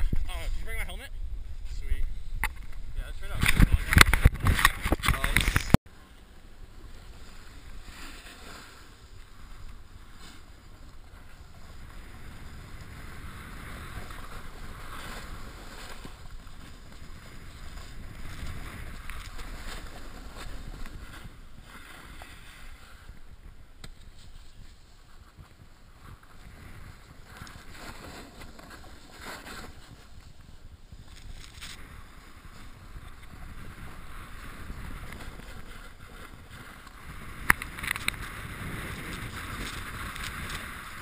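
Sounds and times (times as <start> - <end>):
wind rumble on microphone: 0.0 - 5.8, 8.9 - 41.0
snowboard scraping over snow: 6.5 - 41.0.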